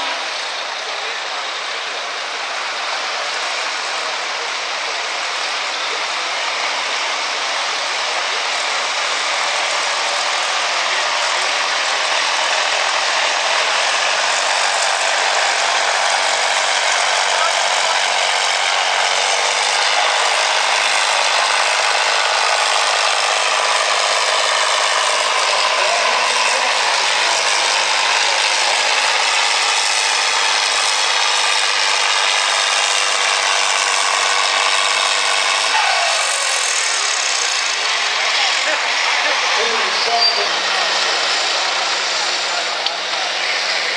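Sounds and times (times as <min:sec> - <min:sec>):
diesel tractor running under load: 0:00.0 - 0:43.9.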